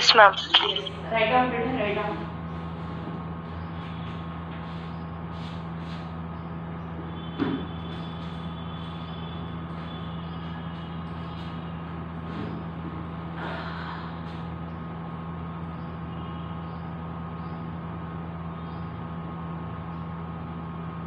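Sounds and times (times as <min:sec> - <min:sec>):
machine-like background hum: 0:00.0 - 0:21.0.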